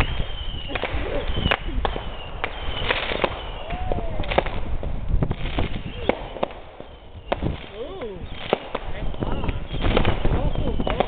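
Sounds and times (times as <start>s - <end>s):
fireworks high whistles: 0.0s - 4.6s, 5.3s - 11.0s
fireworks bangs and cracks: 0.0s - 11.0s.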